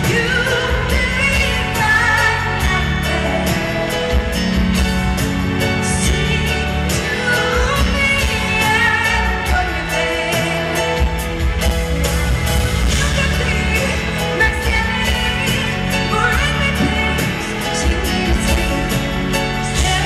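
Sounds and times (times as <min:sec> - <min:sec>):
woman singing pop ballad: 0:00.0 - 0:11.8, 0:12.8 - 0:20.0
bass notes: 0:00.0 - 0:20.0.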